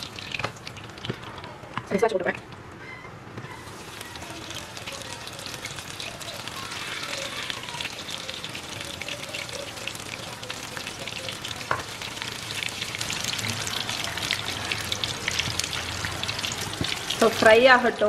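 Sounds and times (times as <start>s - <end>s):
chicken sizzling in hot oil: 0.0s - 1.6s, 3.6s - 17.9s.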